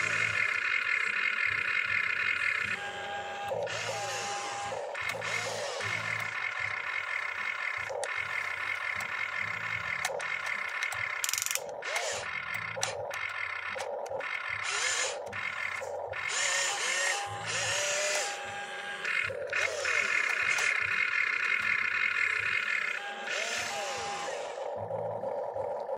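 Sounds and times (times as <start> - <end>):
toy excavator motors whining: 0.0 - 25.9.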